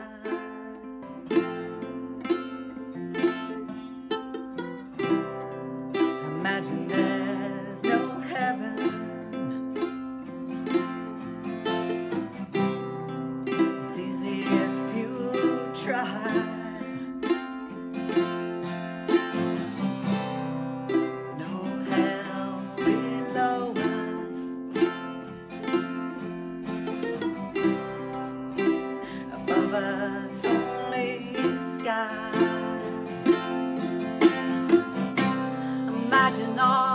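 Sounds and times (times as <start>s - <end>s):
acoustic guitar strumming chords: 0.0s - 36.9s
ukulele strumming chords: 0.0s - 36.9s.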